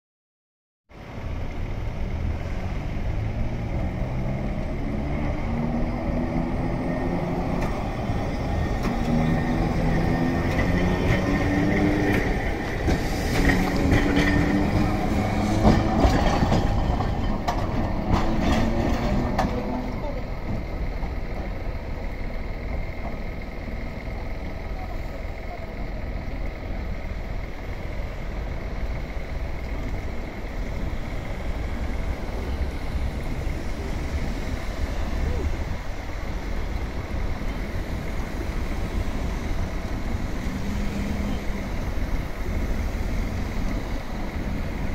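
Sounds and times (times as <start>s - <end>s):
streetcar motor hum rising: 0.9s - 44.9s
tram rumbling away: 0.9s - 44.9s.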